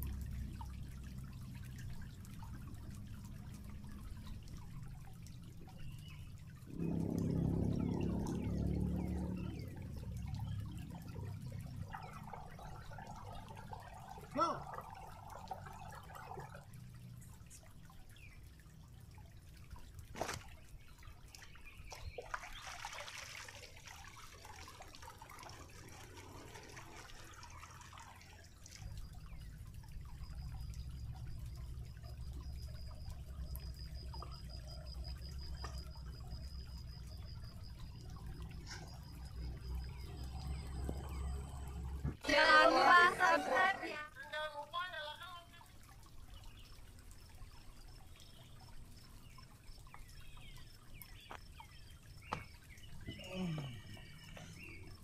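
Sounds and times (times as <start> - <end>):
creek water trickling and sloshing: 0.0 - 55.0.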